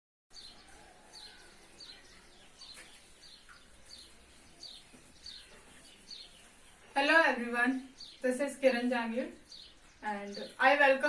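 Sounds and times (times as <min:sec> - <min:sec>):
faint bird chirping: 0:00.3 - 0:11.0
low background noise: 0:00.3 - 0:11.0.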